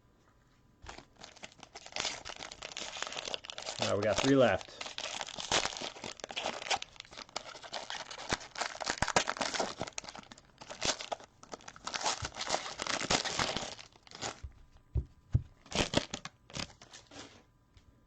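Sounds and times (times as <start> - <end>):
wrapper tearing and crinkling: 0.9 - 14.4, 15.6 - 17.3.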